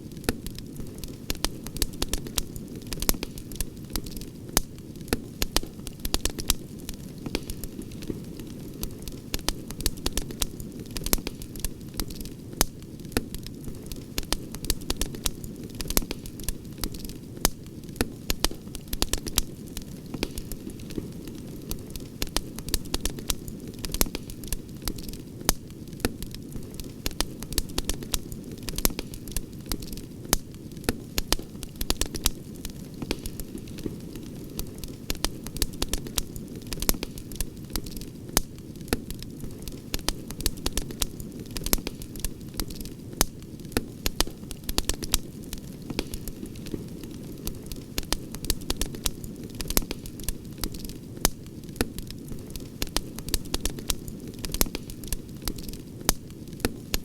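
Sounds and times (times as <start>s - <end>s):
fire crackling and popping: 0.0s - 57.0s
campfire flame rushing: 0.2s - 57.0s.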